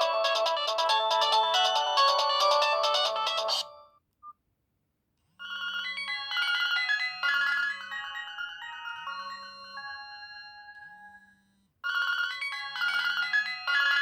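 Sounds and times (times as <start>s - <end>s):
phone ringtone melody: 0.0s - 3.8s, 5.4s - 14.0s.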